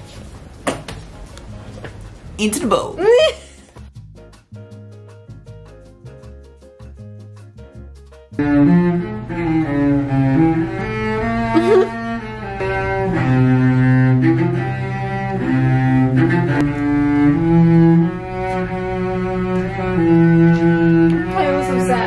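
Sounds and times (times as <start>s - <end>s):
slow low background music: 0.0s - 22.0s.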